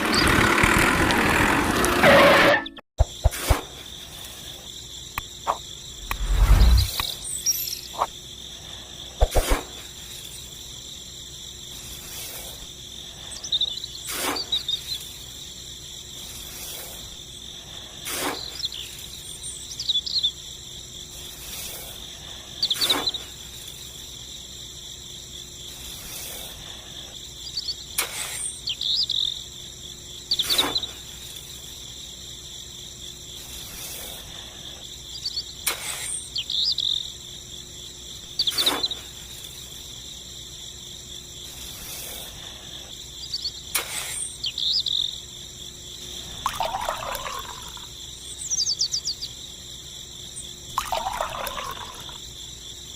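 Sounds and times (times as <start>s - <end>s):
insects chirping: 3.0s - 52.9s.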